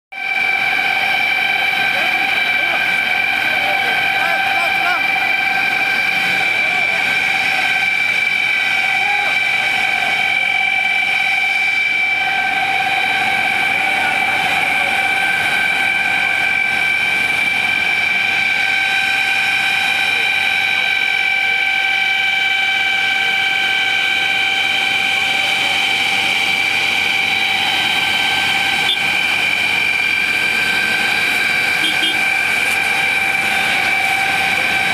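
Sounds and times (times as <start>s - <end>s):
steady high-pitched whine: 0.1s - 34.9s
faint voices: 0.2s - 34.9s.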